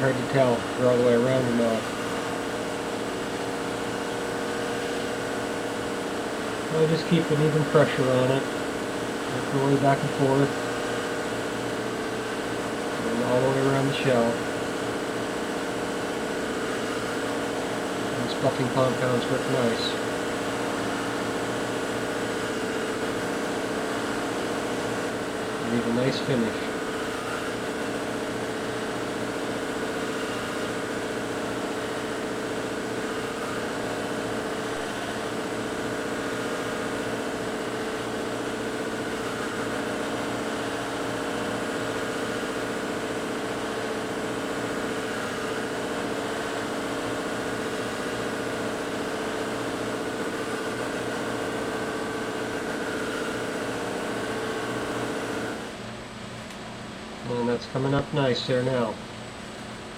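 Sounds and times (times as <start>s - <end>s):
buffing wheel humming: 0.0s - 56.9s.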